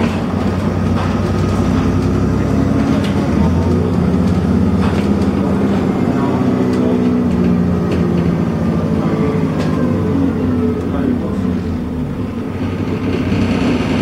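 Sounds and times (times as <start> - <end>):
bus diesel engine accelerating: 0.0 - 14.0.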